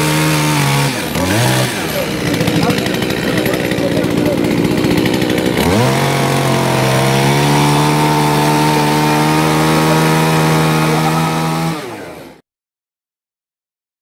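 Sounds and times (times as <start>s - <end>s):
small engine revving: 0.0s - 12.4s.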